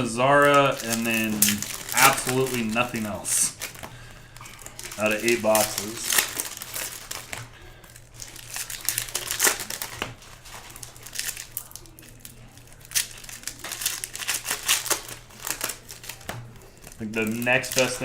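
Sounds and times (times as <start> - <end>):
foil wrappers crinkling: 0.0 - 18.0.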